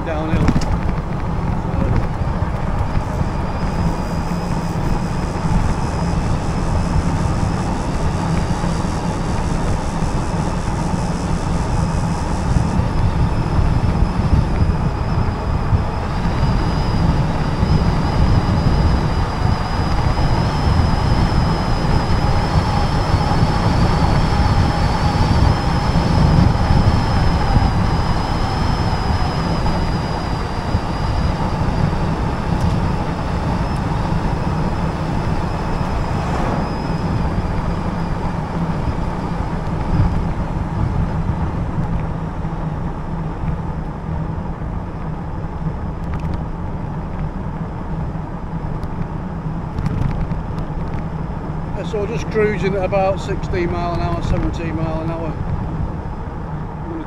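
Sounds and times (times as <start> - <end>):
faint high whine: 0.0 - 57.0
wind buffeting microphone: 0.0 - 57.0.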